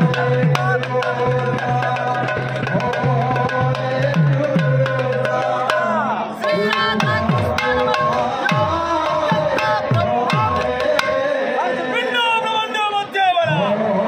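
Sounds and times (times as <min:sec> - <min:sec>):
barrel drums played fast: 0:00.0 - 0:11.3.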